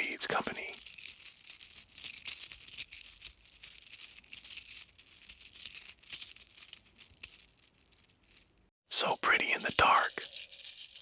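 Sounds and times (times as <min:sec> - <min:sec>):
beads clicking and rattling: 0:00.0 - 0:08.7, 0:09.5 - 0:11.0.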